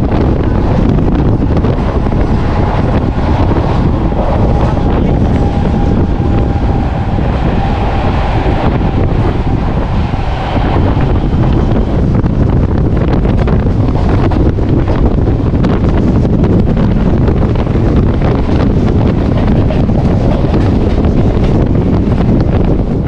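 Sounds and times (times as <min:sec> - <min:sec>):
train rumbling and clattering: 0:00.0 - 0:23.0
wind buffeting microphone: 0:00.0 - 0:23.0.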